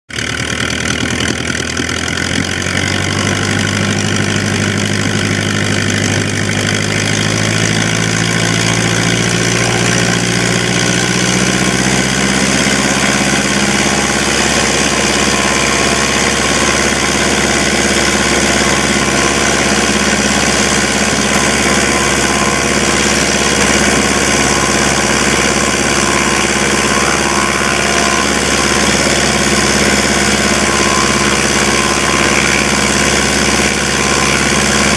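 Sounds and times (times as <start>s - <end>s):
piston aircraft engine running: 0.1s - 34.9s.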